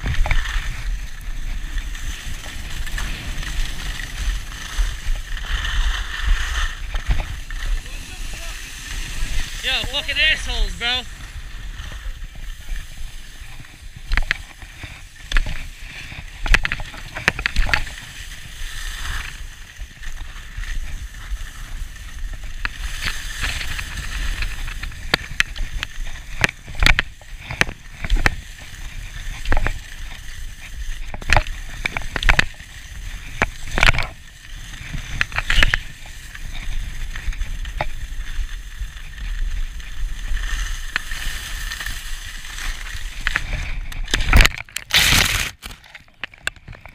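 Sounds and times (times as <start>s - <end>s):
skis scraping on packed snow: 0.0s - 46.9s.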